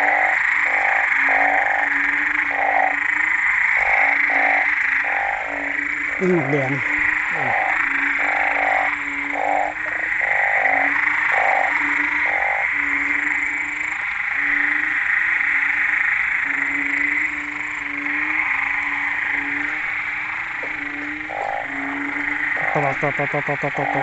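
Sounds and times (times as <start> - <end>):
frogs calling low notes: 0.0 - 24.0
short evenly spaced calls: 0.0 - 24.0
high-pitched drone of callers: 3.8 - 24.0.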